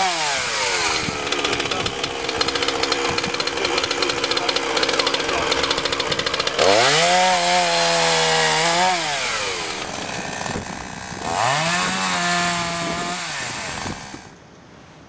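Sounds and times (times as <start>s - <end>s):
chainsaw idling and revving: 0.0s - 14.3s.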